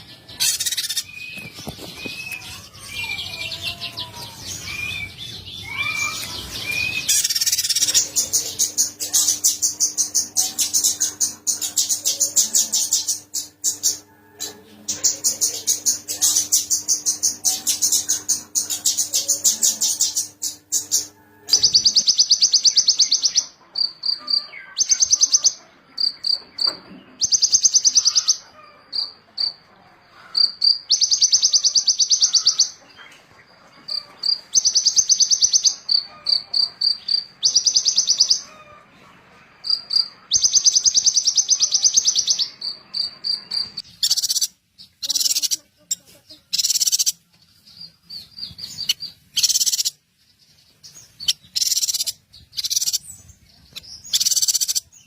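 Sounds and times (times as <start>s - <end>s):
songbird buzzy trills: 0.0s - 55.0s.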